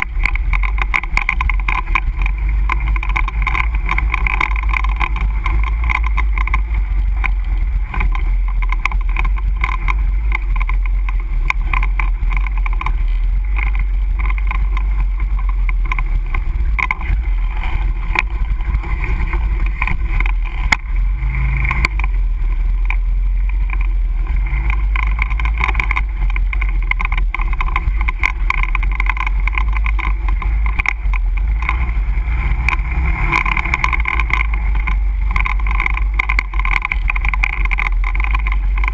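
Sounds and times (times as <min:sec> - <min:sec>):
quad engine running: 0:00.0 - 0:38.9.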